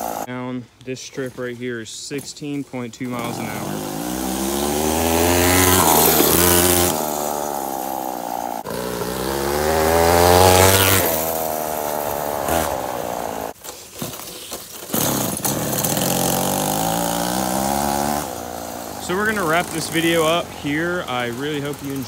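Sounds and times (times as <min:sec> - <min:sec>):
two-stroke engine revving: 0:00.0 - 0:00.3, 0:03.1 - 0:13.6, 0:14.9 - 0:22.0.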